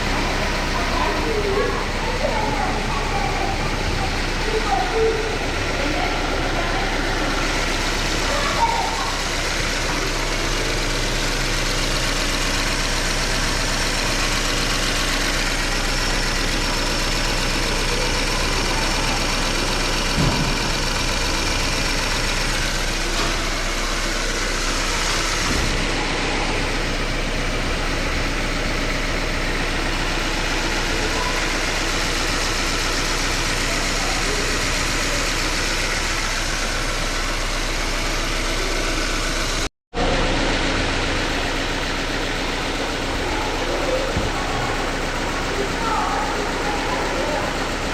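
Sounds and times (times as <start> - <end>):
car engine idling: 0.0 - 47.9
engine knock: 0.0 - 47.9.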